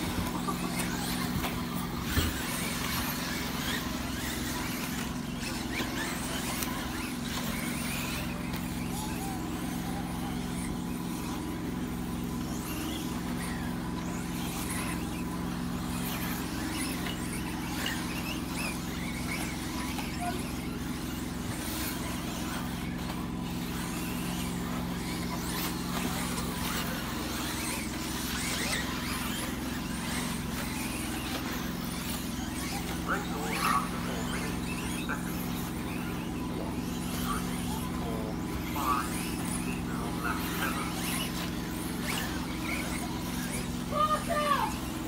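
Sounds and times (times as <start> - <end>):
steady low hum: 0.0 - 45.0
toy car motor whines: 0.0 - 45.0
tyres scrabbling: 0.0 - 45.0.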